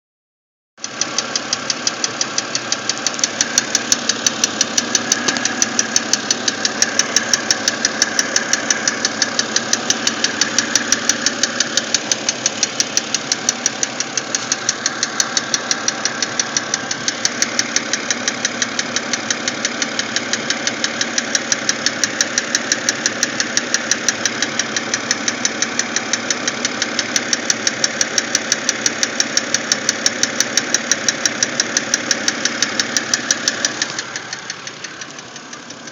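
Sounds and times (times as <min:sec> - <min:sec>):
car engine running: 0:00.8 - 0:35.9
rapid regular engine ticking: 0:00.8 - 0:35.9.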